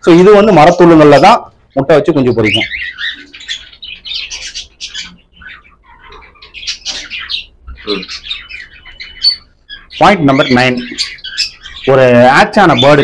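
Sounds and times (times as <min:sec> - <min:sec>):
cockatiels chirping and squawking: 0:00.2 - 0:13.0.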